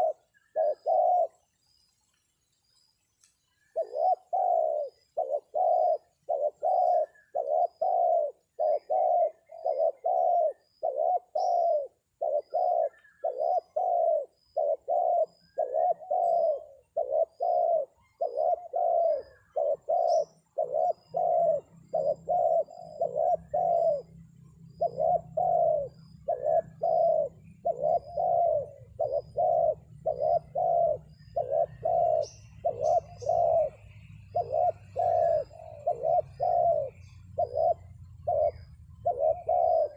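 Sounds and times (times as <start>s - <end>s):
dove cooing: 0.0s - 1.4s, 3.6s - 39.9s.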